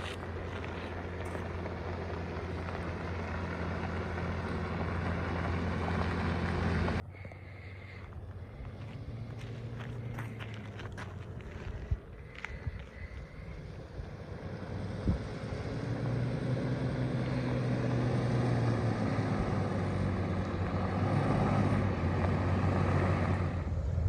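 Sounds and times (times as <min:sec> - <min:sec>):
pickup truck engine running: 0:00.0 - 0:24.0.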